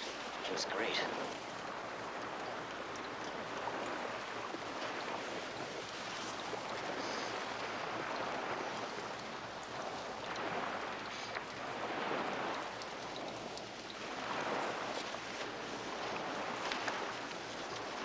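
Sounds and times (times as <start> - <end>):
sea water rushing: 0.0 - 18.0
wind: 0.0 - 18.0
faint ticks: 1.3 - 18.0.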